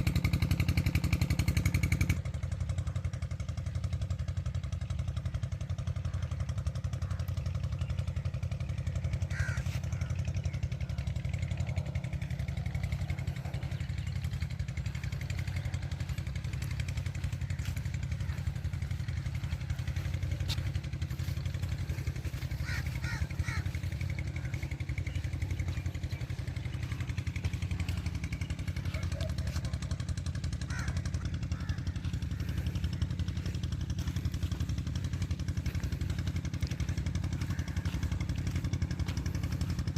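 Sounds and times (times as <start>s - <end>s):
diesel pump engine chugging: 0.0s - 39.9s.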